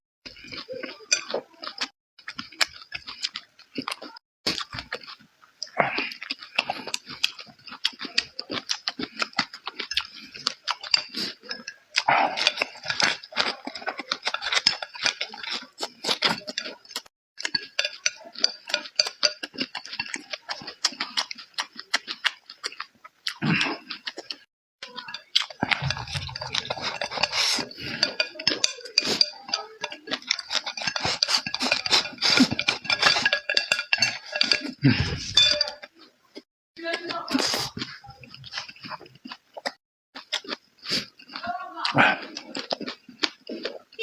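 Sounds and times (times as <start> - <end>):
person chewing food: 0.2 - 44.0.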